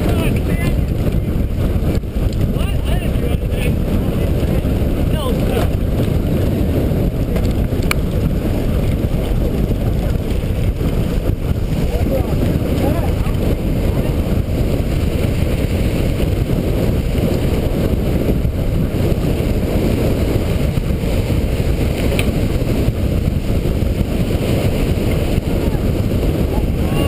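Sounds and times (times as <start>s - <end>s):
bicycle tyres rolling on pavement: 0.0s - 27.0s
wind buffeting microphone: 0.0s - 27.0s.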